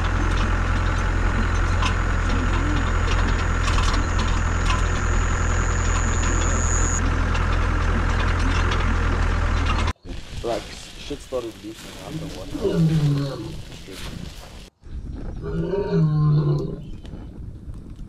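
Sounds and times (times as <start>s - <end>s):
diesel engine running: 0.0s - 14.7s.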